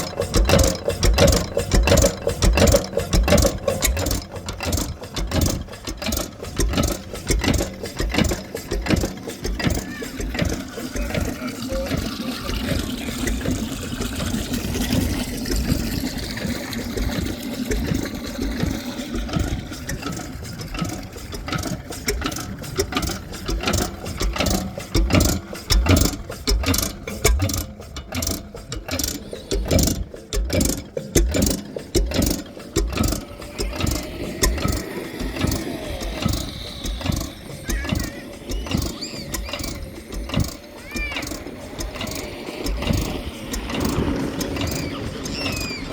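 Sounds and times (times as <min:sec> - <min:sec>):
diesel stationary engine running: 0:00.0 - 0:45.9.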